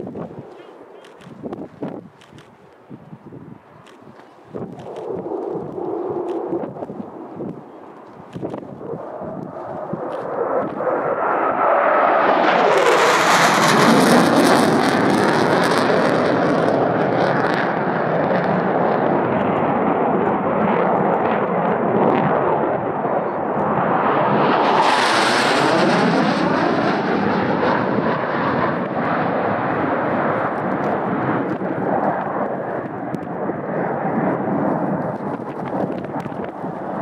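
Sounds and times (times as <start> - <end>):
fighter jet roaring past: 4.8 - 37.0.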